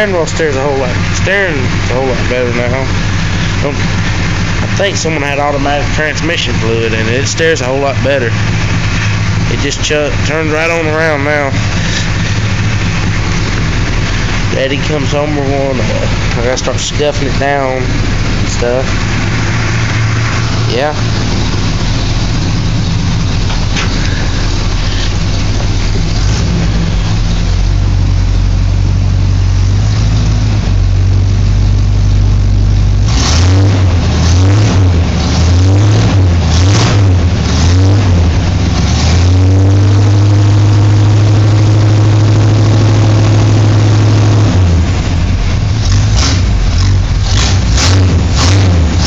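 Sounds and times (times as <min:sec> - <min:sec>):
pickup engine running and revving: 0:00.0 - 0:49.0.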